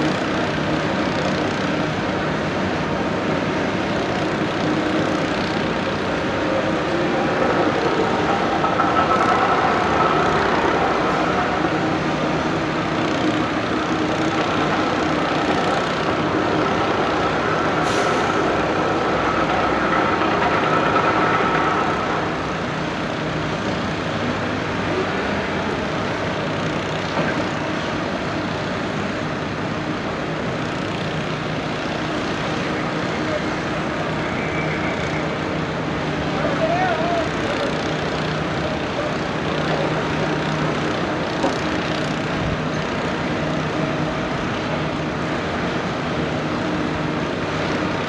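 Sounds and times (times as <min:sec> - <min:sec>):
drilling rig engine running: 0:00.0 - 0:48.0
machinery whine: 0:00.0 - 0:48.0.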